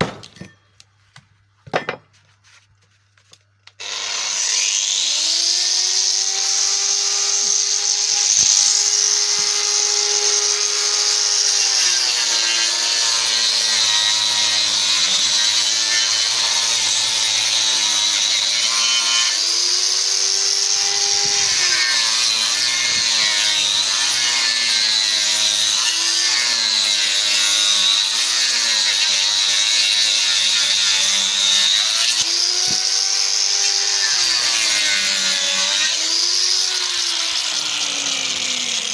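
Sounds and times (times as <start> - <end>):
power tool cutting wood: 3.7 - 38.9.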